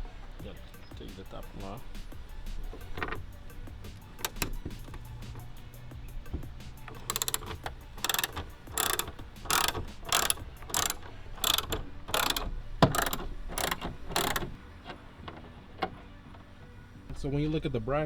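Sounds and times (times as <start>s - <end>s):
ratchet wrench clicking: 0.0s - 17.1s.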